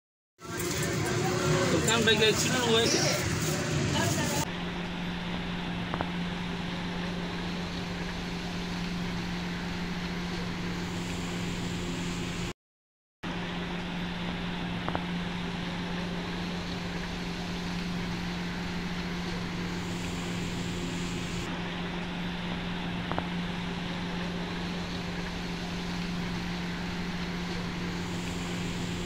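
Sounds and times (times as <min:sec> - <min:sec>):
mechanical hum: 0:00.4 - 0:12.6, 0:13.2 - 0:29.0.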